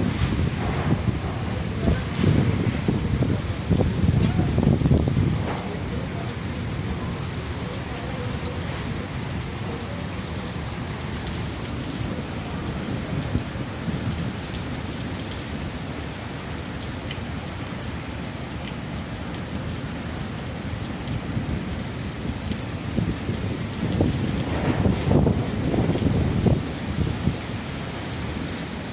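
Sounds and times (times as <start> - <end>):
raindrops pattering on surfaces: 0.0 - 28.9
steady rain falling: 0.0 - 28.9.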